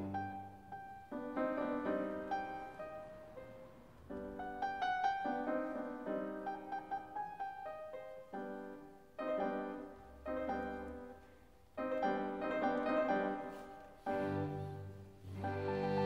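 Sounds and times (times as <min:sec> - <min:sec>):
slow solo piano chords: 0:00.0 - 0:16.0.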